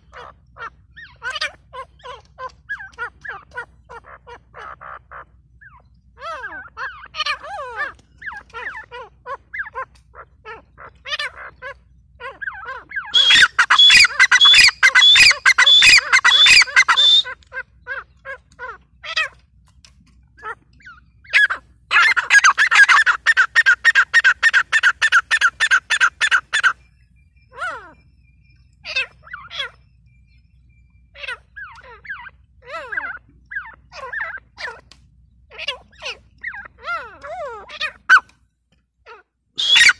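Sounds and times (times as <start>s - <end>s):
francolins calling: 0.0s - 19.6s, 20.4s - 38.3s, 39.0s - 39.9s.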